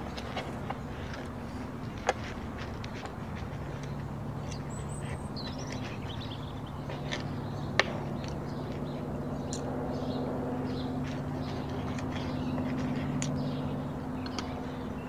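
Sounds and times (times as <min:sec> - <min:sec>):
birds chirping faintly: 0:00.0 - 0:15.0
steady low hum: 0:00.0 - 0:15.0.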